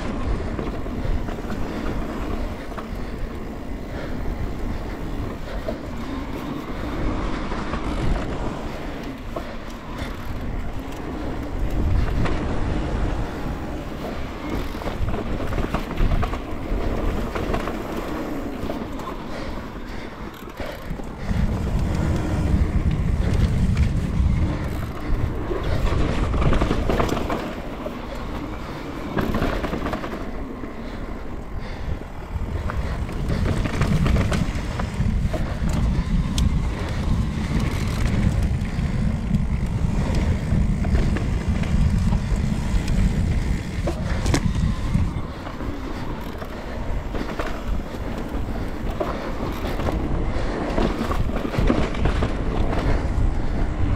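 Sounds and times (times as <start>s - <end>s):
bike tyres crunching over dirt: 0.0s - 31.0s, 31.6s - 53.9s
bike rattling: 0.0s - 53.9s
wind rumble on microphone: 0.0s - 53.9s.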